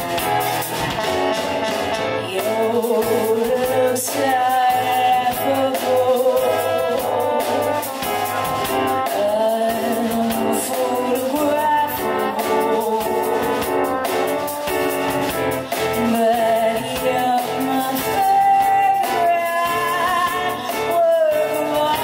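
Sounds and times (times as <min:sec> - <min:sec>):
band accompaniment: 0:00.0 - 0:22.0
woman singing jazzy ballad: 0:02.2 - 0:14.5, 0:15.6 - 0:22.0.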